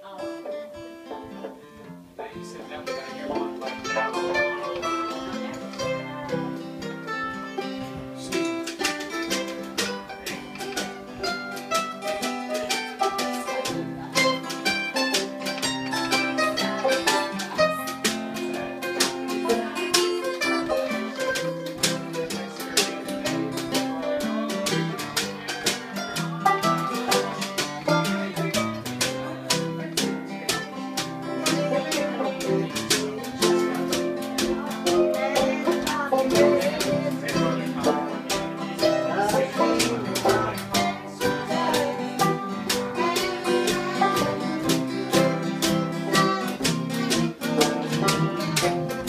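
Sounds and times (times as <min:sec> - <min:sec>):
acoustic guitar: 0:00.0 - 0:49.0
banjo: 0:00.0 - 0:49.0
mandolin: 0:00.0 - 0:49.0.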